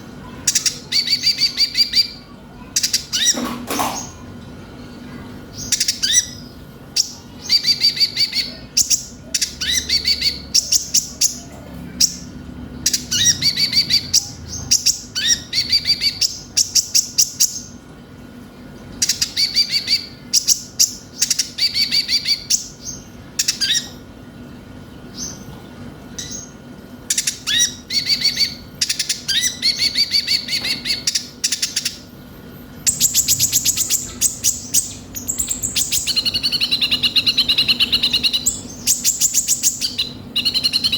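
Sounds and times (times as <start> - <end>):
bird chirps and trills: 0.0 - 17.8, 18.6 - 24.2, 24.8 - 40.9
faint steady hum: 0.0 - 40.9.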